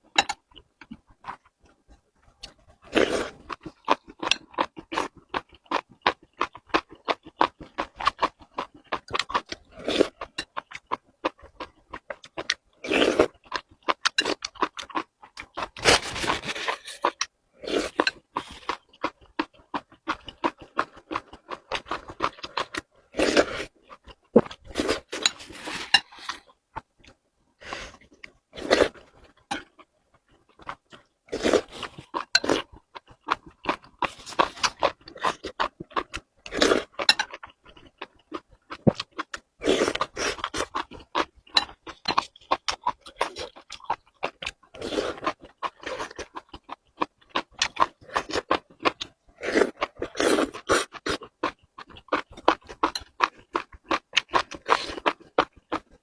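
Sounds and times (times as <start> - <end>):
wet chewing and smacking: 0.1 - 27.2, 28.0 - 56.0.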